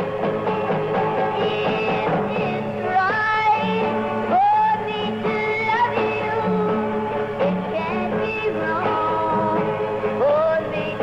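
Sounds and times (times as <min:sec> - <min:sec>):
guitar: 0:00.0 - 0:11.0
woman singing country song: 0:01.2 - 0:06.9, 0:07.5 - 0:11.0.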